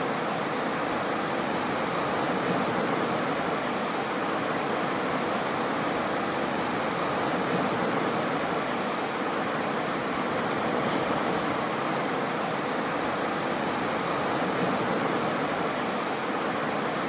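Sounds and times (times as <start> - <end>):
small waves washing onto beach: 0.0 - 17.0.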